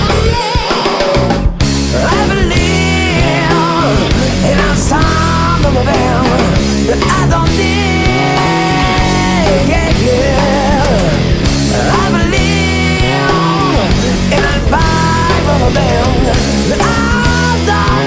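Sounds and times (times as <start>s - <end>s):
guitar lead bending notes: 0.0s - 18.0s
rock band playing: 0.0s - 18.0s.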